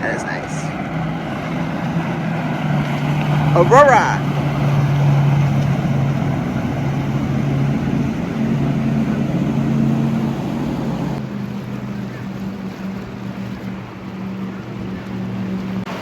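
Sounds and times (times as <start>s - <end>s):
motorboat engine droning: 0.0s - 16.0s
water noise: 0.0s - 16.0s.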